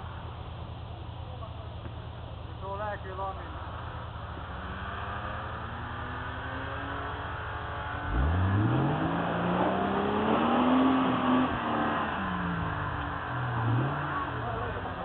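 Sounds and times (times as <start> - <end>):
off-road vehicle engine revving: 1.0 - 15.0.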